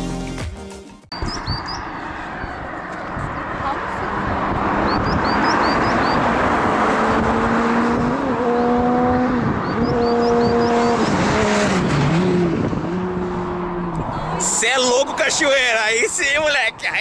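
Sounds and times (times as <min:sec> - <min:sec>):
car engine: 0:01.1 - 0:17.0
heavy wind rush: 0:01.1 - 0:17.0.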